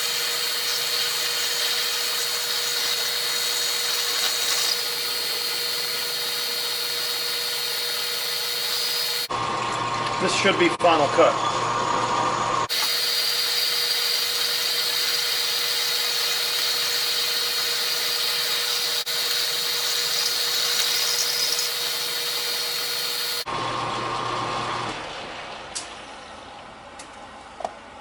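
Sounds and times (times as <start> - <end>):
metal lathe machining with whine: 0.0 - 24.9.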